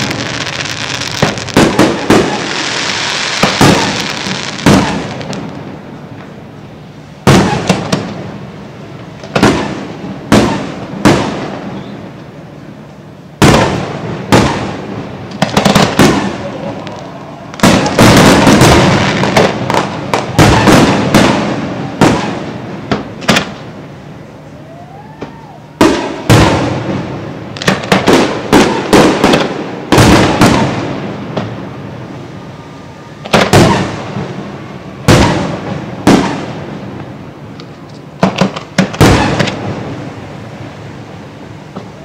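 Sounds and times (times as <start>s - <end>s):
fireworks bursting with crackle: 0.0s - 42.0s.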